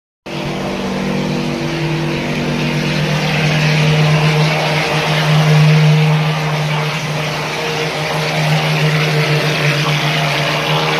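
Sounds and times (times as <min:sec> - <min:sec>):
motor hum: 0:00.3 - 0:10.9.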